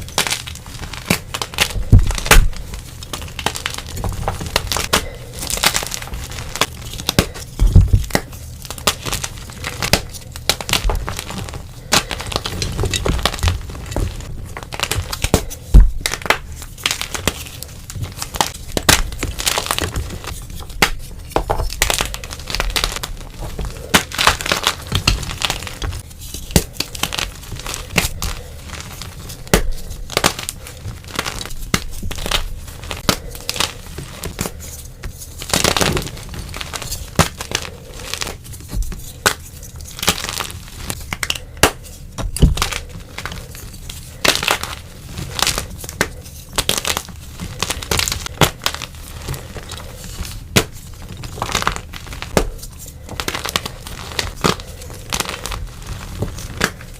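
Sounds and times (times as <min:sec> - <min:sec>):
chalk crunching and crackling: 0:00.0 - 0:56.9.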